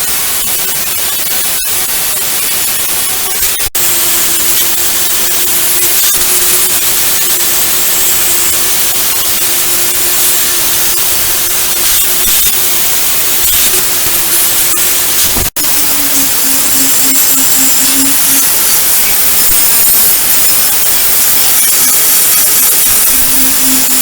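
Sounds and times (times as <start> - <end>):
loud hissing: 0.0 - 24.0
power tool motor whine: 0.0 - 24.0.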